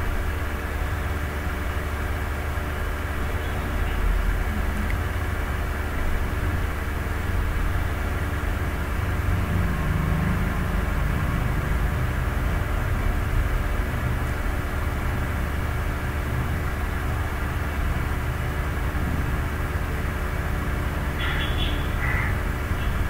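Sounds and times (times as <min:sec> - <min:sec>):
constant hum: 0:00.0 - 0:23.0
steady low rumble: 0:00.0 - 0:23.0.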